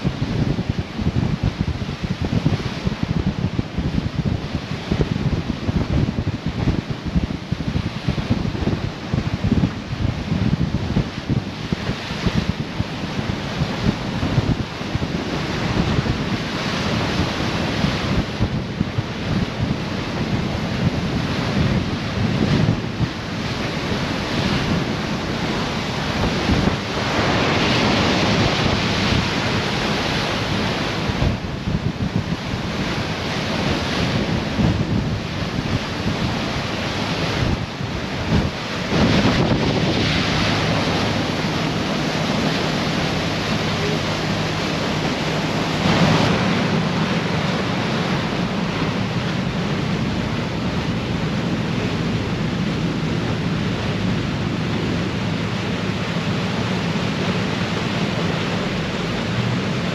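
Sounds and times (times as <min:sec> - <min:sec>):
water rushing along ship bow: 0:00.0 - 0:59.9
wind buffeting microphone: 0:00.0 - 0:59.9.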